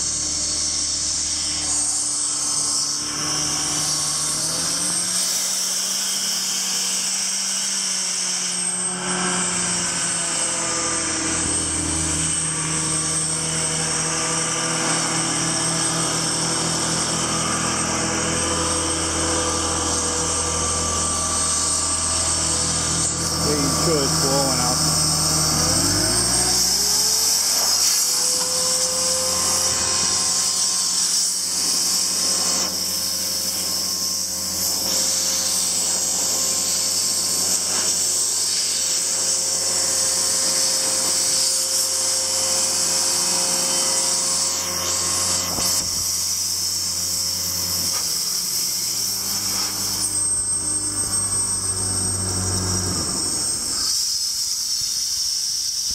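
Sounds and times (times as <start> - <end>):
air compressor engine running: 8.8 - 55.3.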